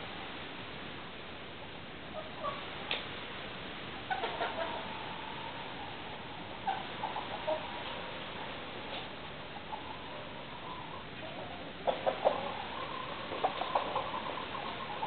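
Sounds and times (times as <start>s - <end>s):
steady hiss: 0.0s - 15.0s
chickens clucking: 2.0s - 3.1s, 3.9s - 15.0s.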